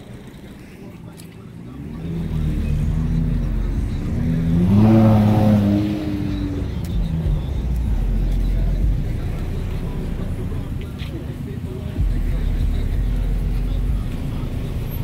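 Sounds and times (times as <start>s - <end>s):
car accelerating: 0.0s - 15.0s
cars driving past slowly: 0.0s - 15.0s.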